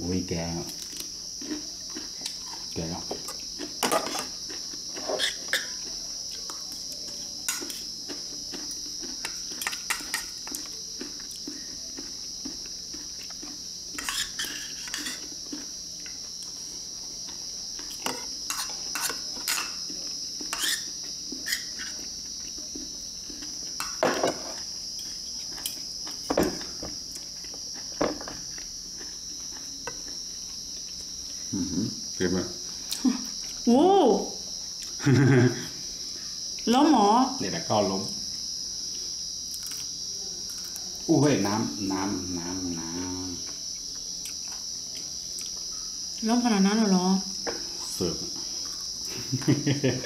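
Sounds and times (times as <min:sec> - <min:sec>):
high-pitched insect drone: 0:00.0 - 0:50.0.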